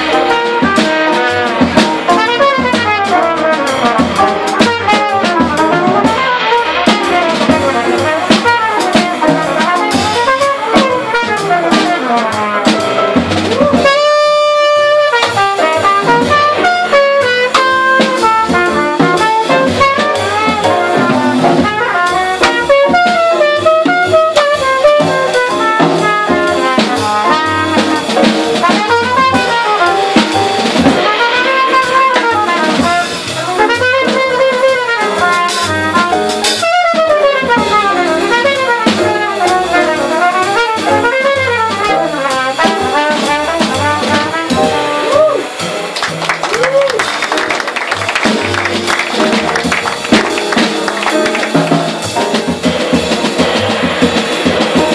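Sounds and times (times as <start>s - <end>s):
cornet solo: 0.0s - 30.4s, 31.0s - 45.6s
drum kit cymbals: 0.0s - 54.9s
walking upright bass: 0.0s - 54.9s.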